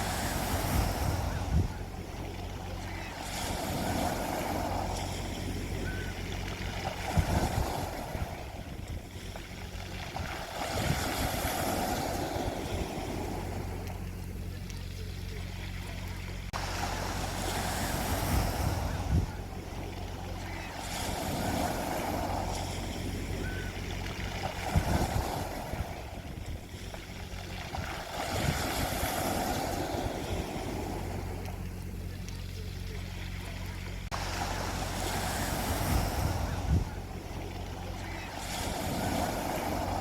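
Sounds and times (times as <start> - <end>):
sea waves breaking on beach: 0.0 - 40.0
steady low hum: 0.0 - 40.0.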